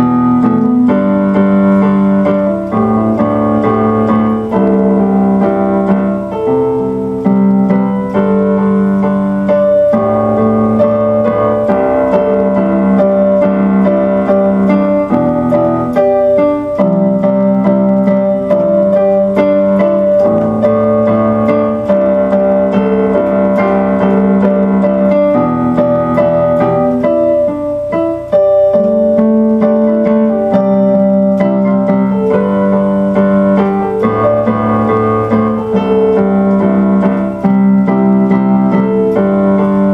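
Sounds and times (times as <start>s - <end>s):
slow piano melody: 0.0s - 39.9s.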